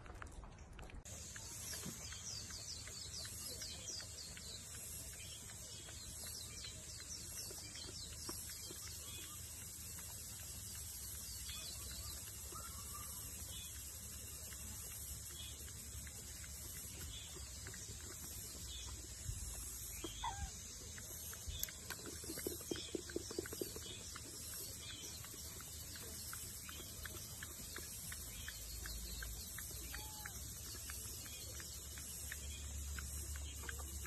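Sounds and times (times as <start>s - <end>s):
faint chirp: 1.1s - 34.0s.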